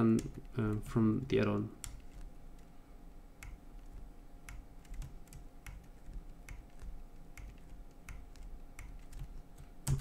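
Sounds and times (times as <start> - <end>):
computer mouse clicking: 0.0 - 2.7, 3.4 - 10.0
faint steady hum: 0.0 - 10.0.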